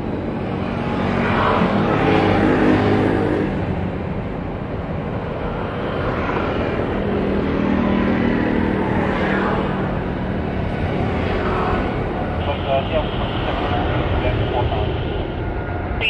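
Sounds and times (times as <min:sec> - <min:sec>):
jet engines humming: 0:00.0 - 0:16.0.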